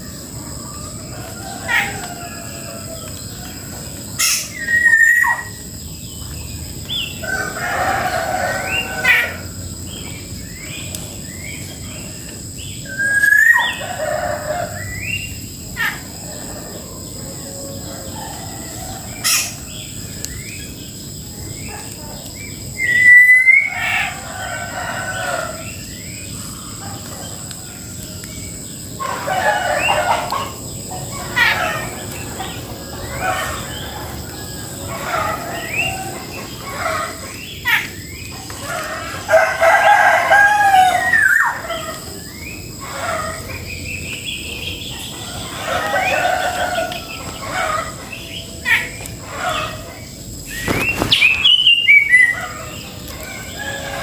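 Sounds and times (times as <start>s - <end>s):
small birds chirping: 0.0s - 40.1s, 40.7s - 54.0s
rooster crowing: 0.1s - 5.6s, 7.0s - 9.9s, 12.9s - 19.9s, 22.8s - 43.6s, 44.2s - 49.9s, 50.8s - 54.0s.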